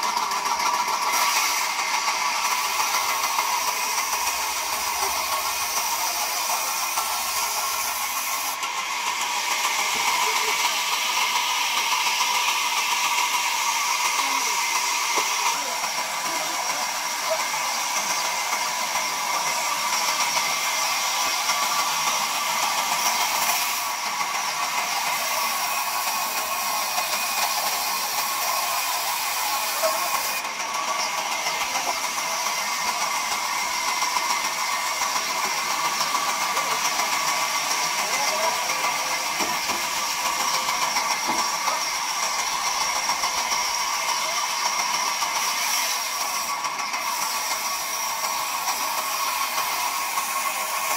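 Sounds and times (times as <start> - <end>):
band saw cutting log: 0.0 - 50.9.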